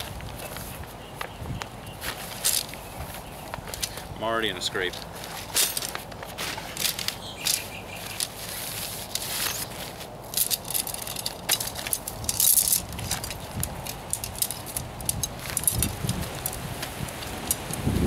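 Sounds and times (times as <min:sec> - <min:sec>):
tent packaging crinkling: 0:01.9 - 0:17.9.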